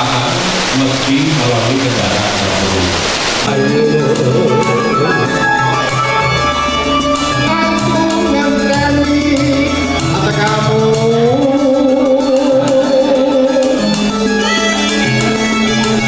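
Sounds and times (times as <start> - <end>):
man singing into a microphone: 0.0 - 6.3, 7.3 - 16.0
electronic keyboard with bass: 0.0 - 16.0.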